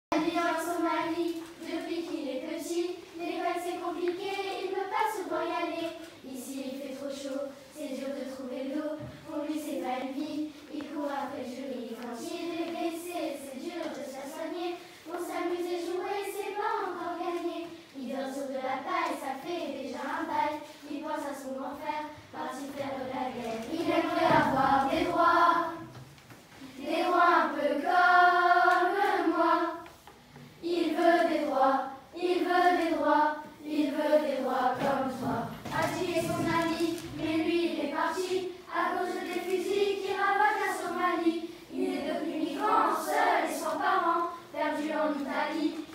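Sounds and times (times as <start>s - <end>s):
young children singing in unison: 0.1s - 45.9s.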